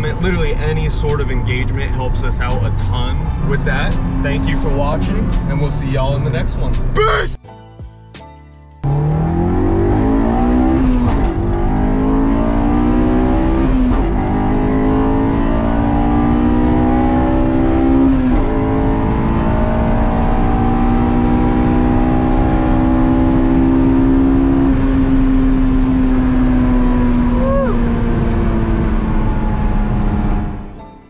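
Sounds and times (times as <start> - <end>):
car engine accelerating hard: 0.0 - 7.0, 8.8 - 30.8.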